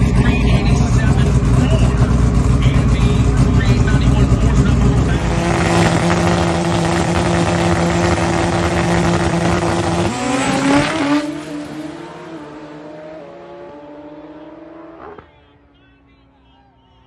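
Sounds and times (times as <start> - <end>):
motorcycle engine revving and accelerating: 0.0 - 15.4.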